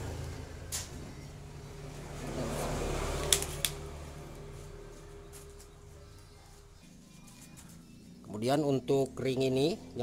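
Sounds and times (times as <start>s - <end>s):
motor vehicle rumble: 0.0s - 8.3s.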